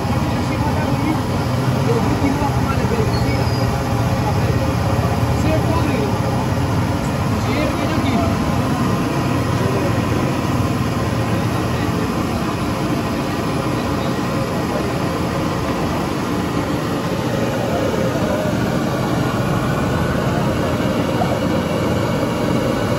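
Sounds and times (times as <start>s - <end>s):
traffic rumble: 0.0s - 22.9s.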